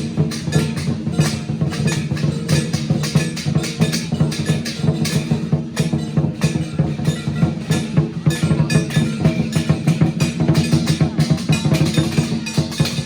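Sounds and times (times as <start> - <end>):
cymbals clashing: 0.0 - 13.0
drum beaten fast: 0.0 - 13.0.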